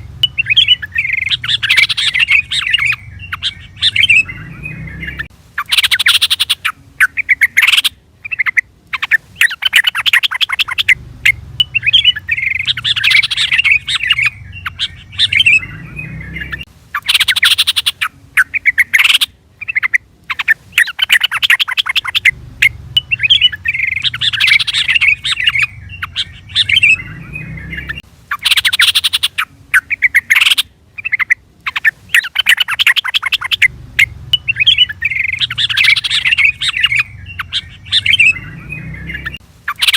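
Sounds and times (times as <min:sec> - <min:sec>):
bird bubbly chattering: 0:00.0 - 0:39.9.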